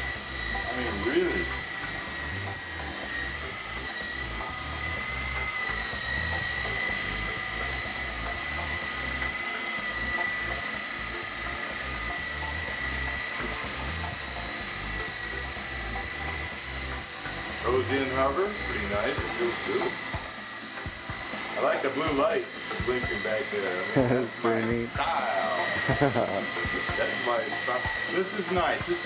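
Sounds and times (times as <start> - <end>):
rc helicopter motor whine: 0.0 - 29.0.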